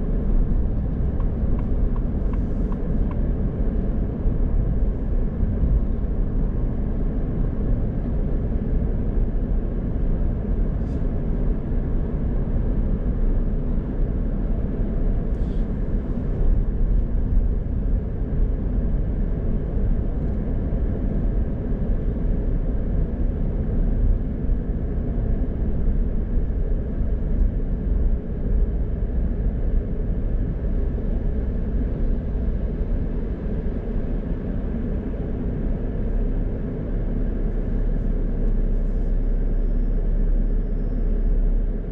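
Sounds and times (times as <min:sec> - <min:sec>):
car engine and tyre rumble: 0:00.0 - 0:41.9.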